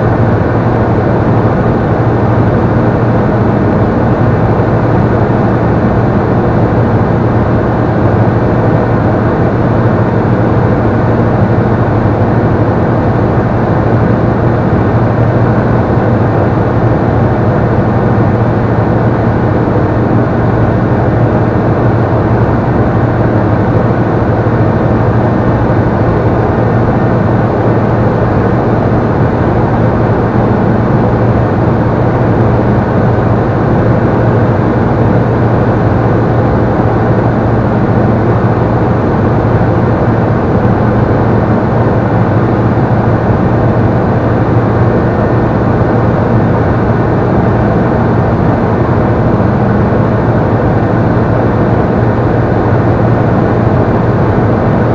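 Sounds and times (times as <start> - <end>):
aircraft engine and propeller droning: 0.0 - 54.9.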